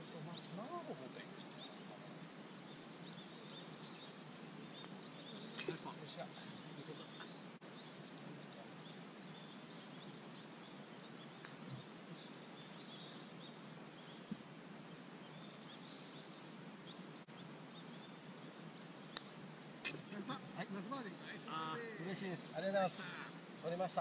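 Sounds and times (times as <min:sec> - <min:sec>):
faint bird chirps: 0:00.0 - 0:24.0
soft hiss: 0:00.0 - 0:24.0.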